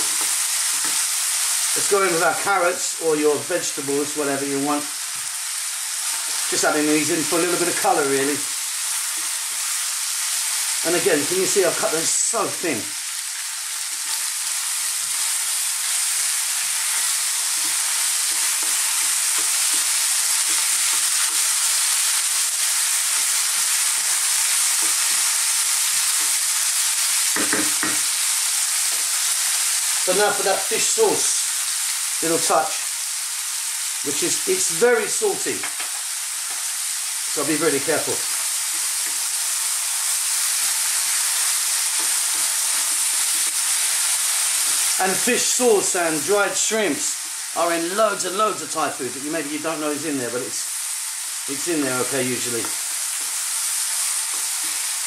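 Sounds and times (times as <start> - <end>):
food sizzling in a wok: 0.0 - 55.0.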